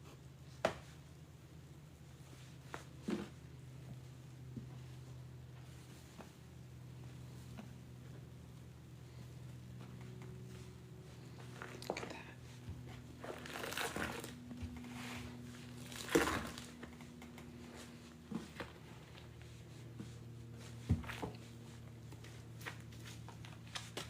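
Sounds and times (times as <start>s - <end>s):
sponge squishing with crinkling: 2.1s - 24.0s.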